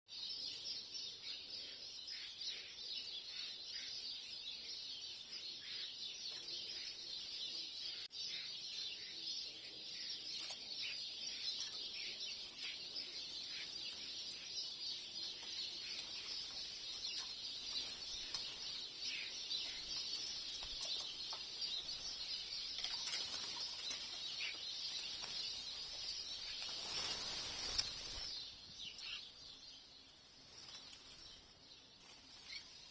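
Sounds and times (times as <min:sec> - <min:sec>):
starlings chattering: 0:04.6 - 0:32.9.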